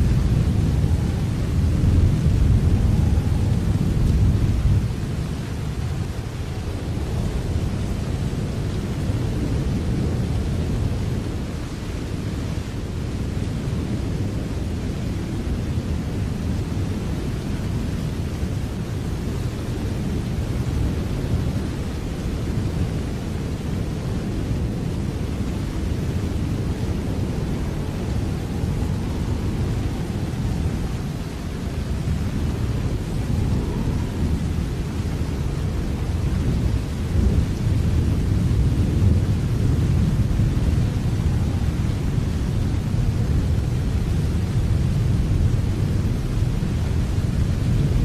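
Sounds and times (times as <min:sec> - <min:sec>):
deep continuous rumble: 0:00.0 - 0:48.0
steady rain: 0:00.0 - 0:48.0.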